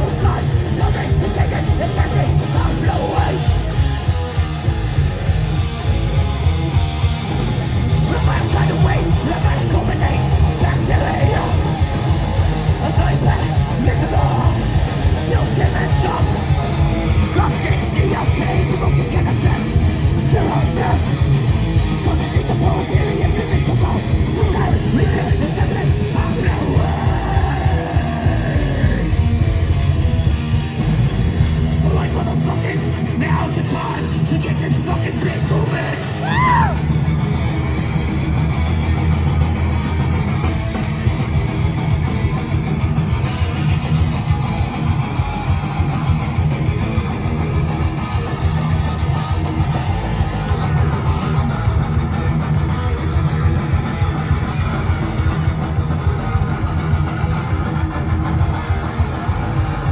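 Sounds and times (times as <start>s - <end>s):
thrash metal band playing live: 0.0s - 59.9s.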